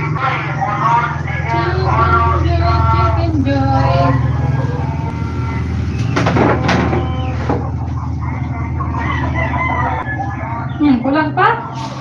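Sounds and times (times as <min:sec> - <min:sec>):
rooster crowing: 0:00.0 - 0:11.0
low hum: 0:00.0 - 0:12.0.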